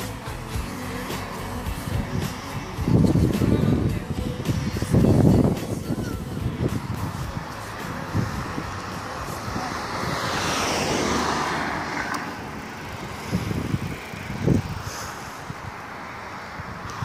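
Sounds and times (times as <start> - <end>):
road vehicle passing: 0.0 - 17.0
wind buffeting microphone: 1.5 - 17.0.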